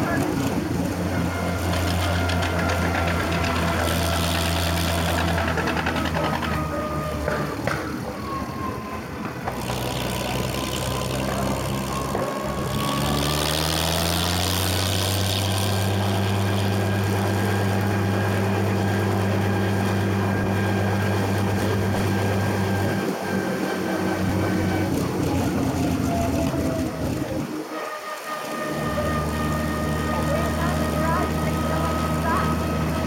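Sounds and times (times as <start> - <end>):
tractor engine: 0.0 - 33.0.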